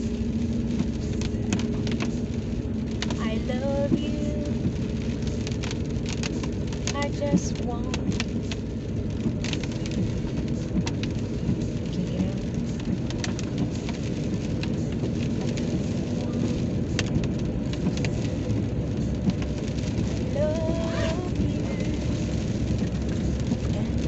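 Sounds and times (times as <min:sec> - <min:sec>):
rain hitting car roof: 0:00.0 - 0:24.0
road and engine rumble: 0:00.0 - 0:24.0.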